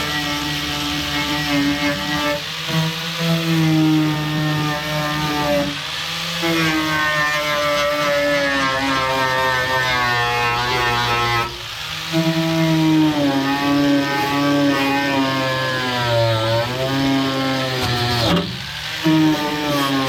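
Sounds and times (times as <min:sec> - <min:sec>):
grinder on sheet metal: 0:00.0 - 0:20.0.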